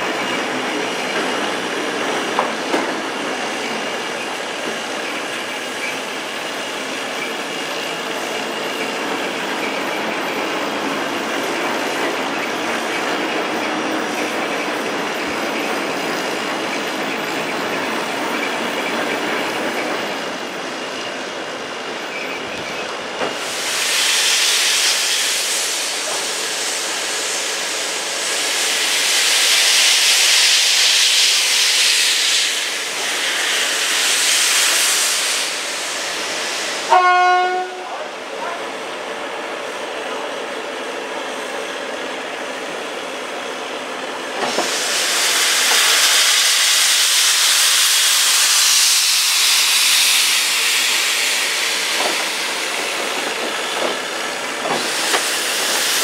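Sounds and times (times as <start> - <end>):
loud steam hissing: 0.0 - 56.0.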